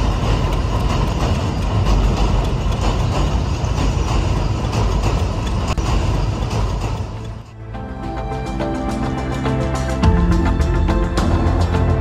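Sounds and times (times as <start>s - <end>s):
background music: 0.0s - 12.0s
train rumbling: 0.0s - 12.0s.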